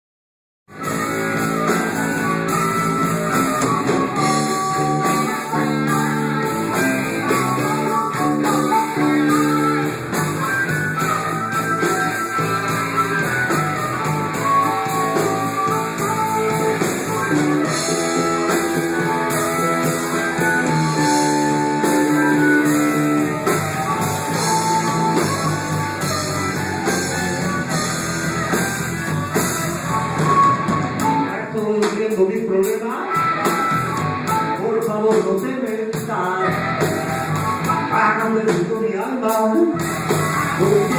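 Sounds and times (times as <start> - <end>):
live band playing guitar-led music: 0.7 - 40.9.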